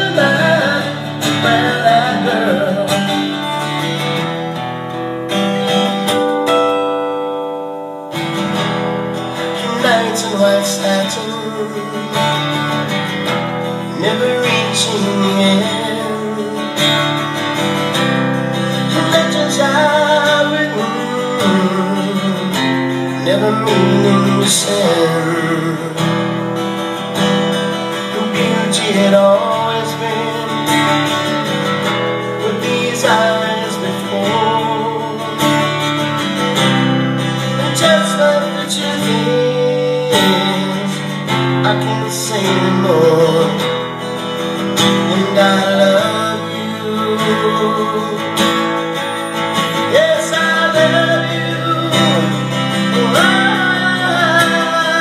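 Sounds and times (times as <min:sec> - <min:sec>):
man singing: 0:00.0 - 0:04.1, 0:09.2 - 0:55.0
strummed acoustic guitar: 0:00.0 - 0:55.0.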